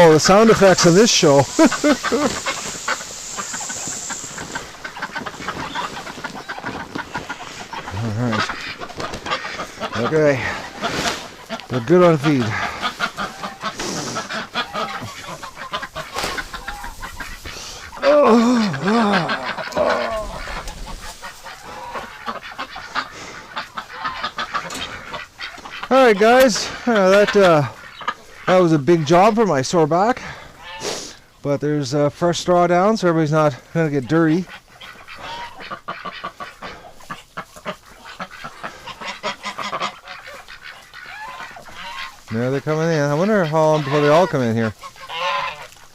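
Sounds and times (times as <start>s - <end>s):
straw rustling on a floor: 0.0s - 18.8s, 19.4s - 27.2s, 35.0s - 45.9s
ducks quacking: 0.0s - 45.9s
geese honking: 0.0s - 45.9s.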